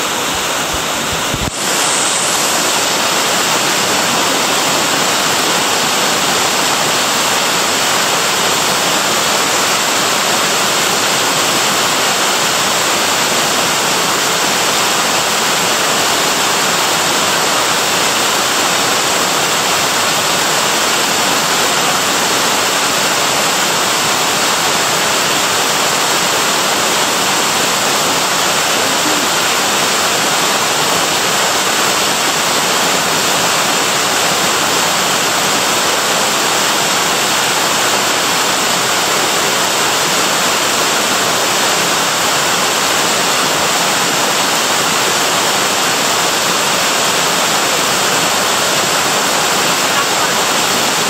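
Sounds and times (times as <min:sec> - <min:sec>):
waterfall pouring: 0:00.0 - 0:51.0.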